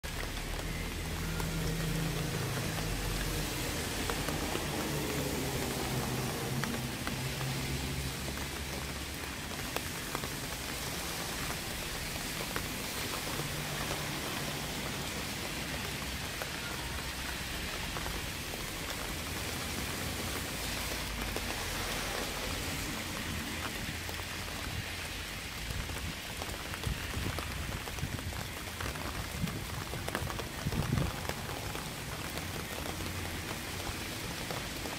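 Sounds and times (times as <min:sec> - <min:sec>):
raindrops ticking: 0:00.0 - 0:34.9
steady rain falling: 0:00.0 - 0:34.9.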